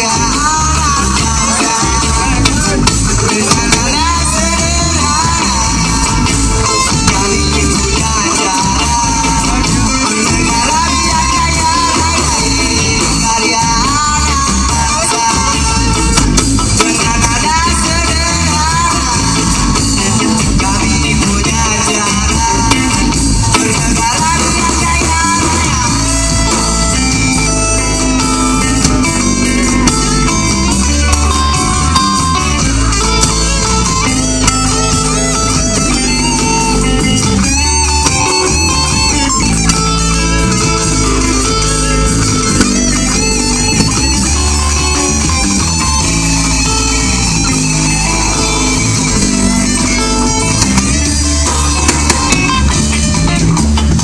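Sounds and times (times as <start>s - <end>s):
bass guitar: 0.0s - 54.0s
drums: 0.0s - 54.0s
electric guitar lines: 0.0s - 54.0s.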